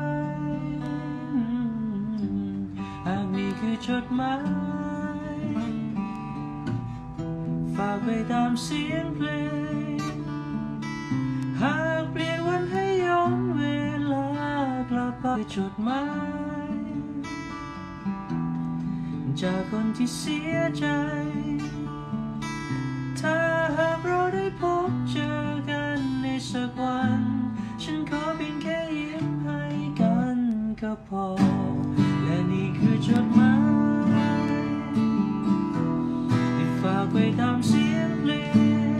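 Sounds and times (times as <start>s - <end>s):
man singing: 0.0s - 6.1s, 7.6s - 17.3s, 19.3s - 22.2s, 23.1s - 38.9s
acoustic guitar chords: 0.0s - 38.9s.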